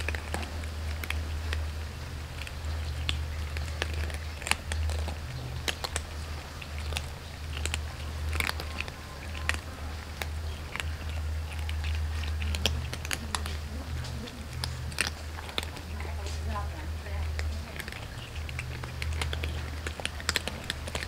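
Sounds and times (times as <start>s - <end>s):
cats crunching dry kibble: 0.0s - 21.0s
steady low hum: 0.0s - 21.0s.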